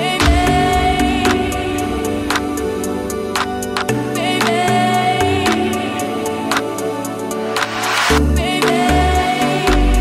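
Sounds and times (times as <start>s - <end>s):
music with deep bass and beat: 0.0s - 10.0s.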